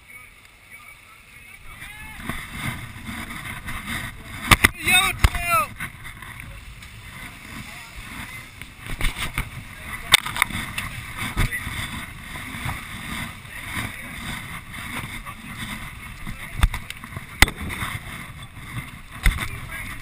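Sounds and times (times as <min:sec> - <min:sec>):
water rushing around a boat: 0:00.0 - 0:20.0
wind: 0:00.0 - 0:20.0.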